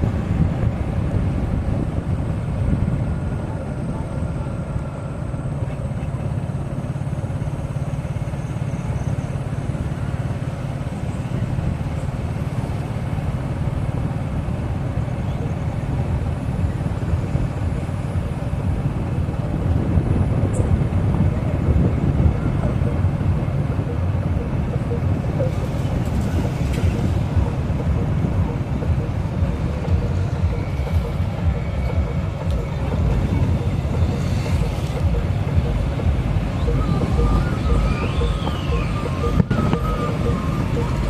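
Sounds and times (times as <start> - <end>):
motorcycle engine rumble: 0.0 - 41.0
road noise: 0.0 - 41.0.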